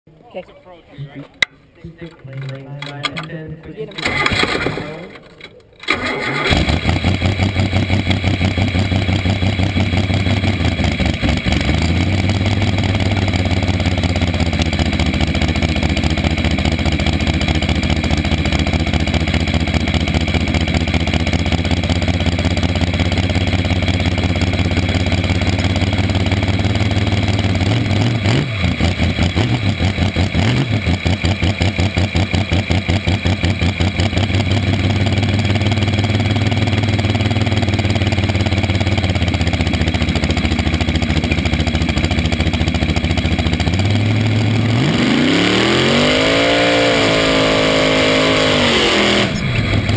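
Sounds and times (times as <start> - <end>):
dragster engine idling: 6.6 - 44.8, 47.2 - 49.9.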